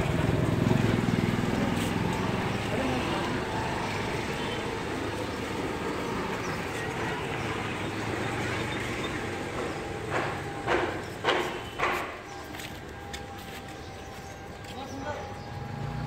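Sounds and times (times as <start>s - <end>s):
street background noise: 0.0s - 16.0s
footsteps on pavement: 0.1s - 15.5s.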